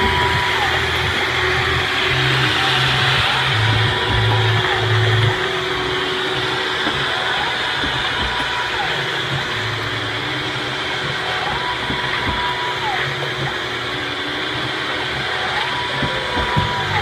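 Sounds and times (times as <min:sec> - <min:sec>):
motor whine rising and falling: 0:00.0 - 0:17.0
steady mechanical whir: 0:00.0 - 0:17.0.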